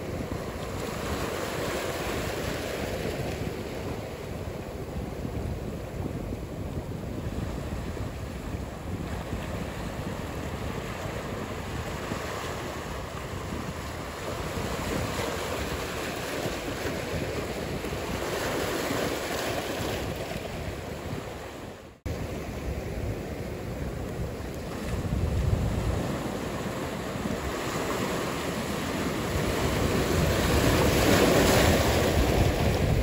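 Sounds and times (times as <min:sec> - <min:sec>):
ocean surf washing: 0:00.0 - 0:33.0
wind noise on microphone: 0:00.0 - 0:33.0.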